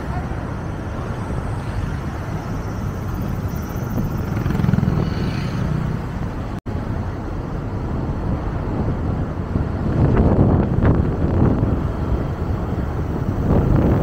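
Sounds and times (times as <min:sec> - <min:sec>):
vehicle and road rumble: 0:00.0 - 0:14.0.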